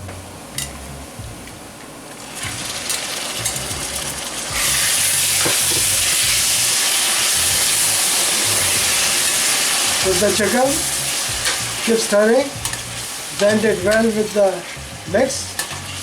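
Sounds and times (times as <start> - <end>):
food sizzling in hot oil: 2.2 - 16.0.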